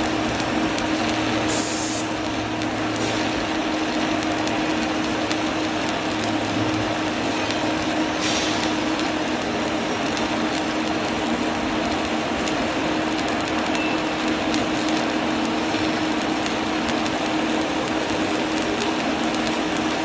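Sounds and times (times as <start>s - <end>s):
welding arc crackling hiss: 0.0s - 20.0s.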